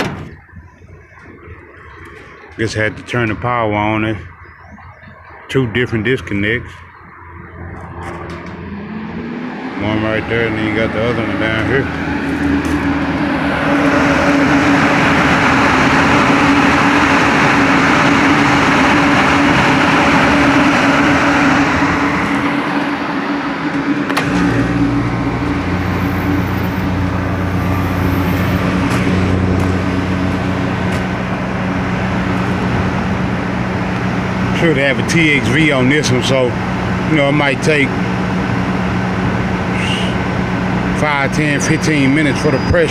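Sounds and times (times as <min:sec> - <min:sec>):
compressor deeper hum: 0:06.4 - 0:42.9
air conditioner rushing air: 0:07.9 - 0:42.9.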